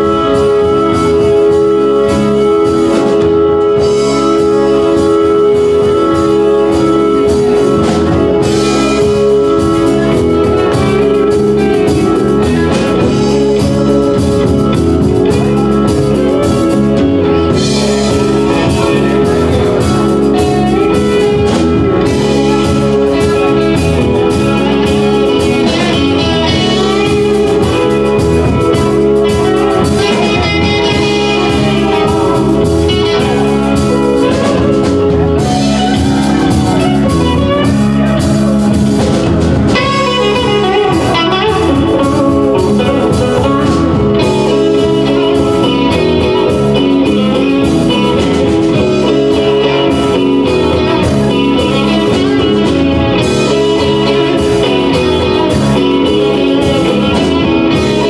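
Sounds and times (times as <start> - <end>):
electric guitar line: 0.0 - 58.0
rock band playing: 0.0 - 58.0.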